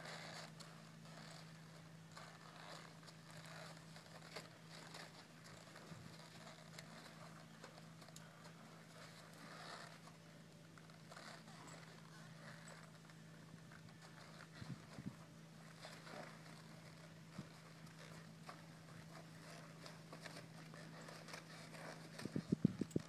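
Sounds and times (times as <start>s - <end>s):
horse hooves walking in sand: 0.0s - 23.0s.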